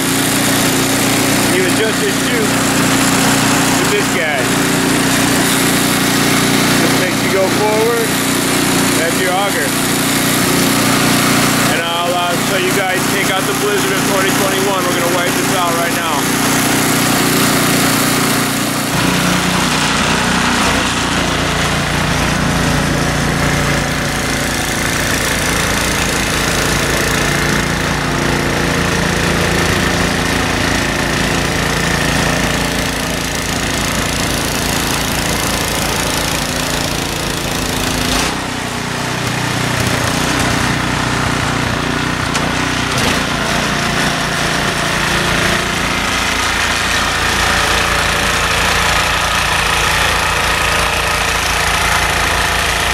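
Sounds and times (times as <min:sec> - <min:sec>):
snow blower engine running: 0:00.0 - 0:52.9.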